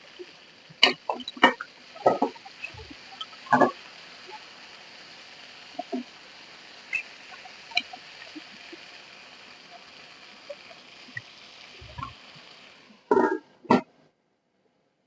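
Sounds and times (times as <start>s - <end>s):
chicken sizzling in hot oil: 0.0s - 13.9s.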